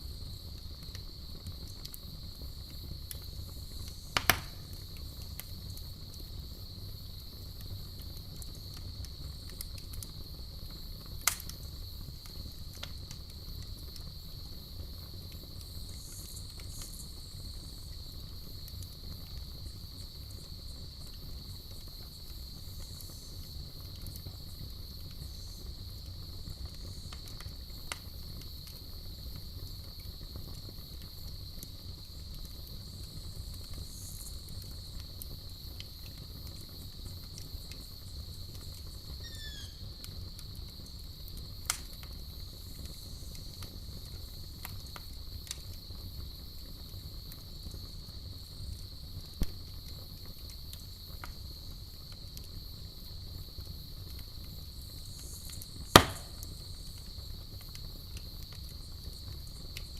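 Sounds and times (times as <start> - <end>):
campfire crackling and popping: 0.0 - 59.9
crickets trilling: 0.0 - 59.9.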